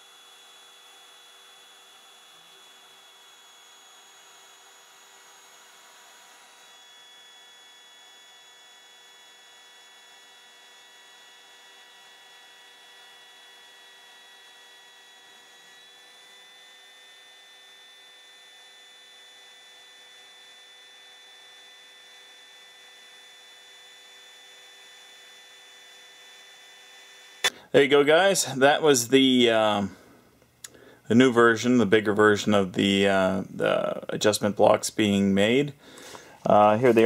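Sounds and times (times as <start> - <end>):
router spindle whine: 0.0 - 30.2, 31.0 - 37.0.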